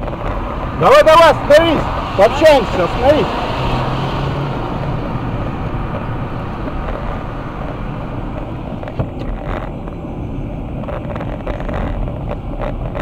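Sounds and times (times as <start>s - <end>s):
car engine and tyres on wet road: 0.0s - 13.0s.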